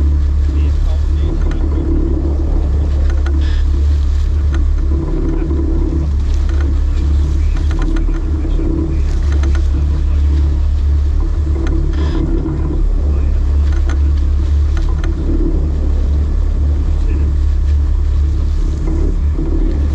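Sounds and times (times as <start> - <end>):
boat engines rumbling: 0.0 - 19.9.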